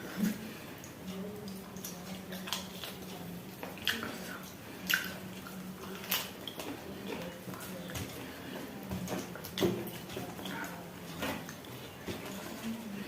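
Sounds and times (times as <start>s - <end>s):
wet chewing and mouth smacking: 0.0s - 12.5s.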